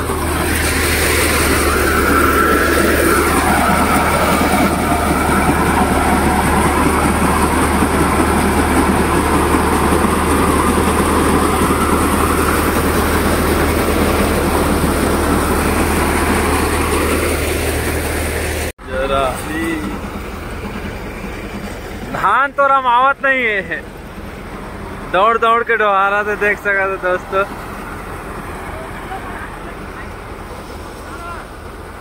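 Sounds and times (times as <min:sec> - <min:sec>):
tractor diesel engine hum: 0:00.0 - 0:32.0.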